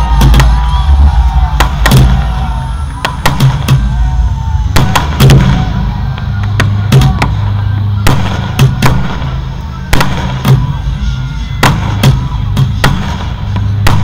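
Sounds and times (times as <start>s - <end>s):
fireworks bangs: 0.0s - 14.0s
loud bass-heavy music: 0.0s - 14.0s.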